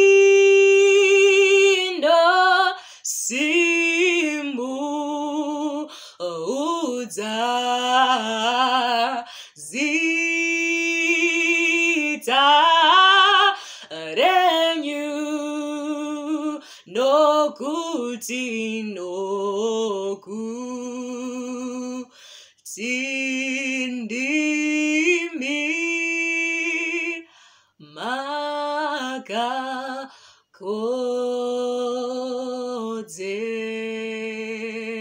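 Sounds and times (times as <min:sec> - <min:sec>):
woman singing unaccompanied: 0:00.0 - 0:35.0.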